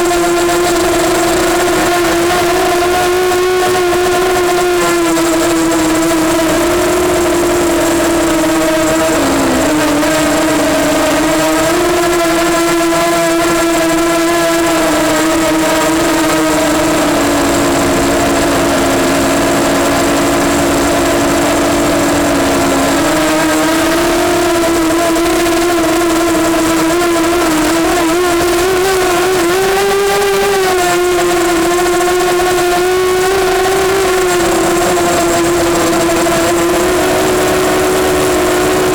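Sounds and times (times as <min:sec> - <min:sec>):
drone motors and propellers whining: 0:00.0 - 0:38.9.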